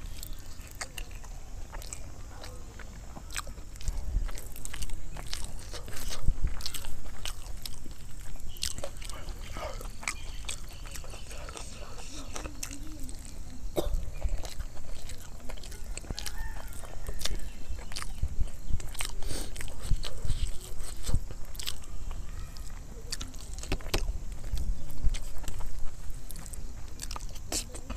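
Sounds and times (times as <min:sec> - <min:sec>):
person chewing with mouth smacking: 0:00.0 - 0:27.9.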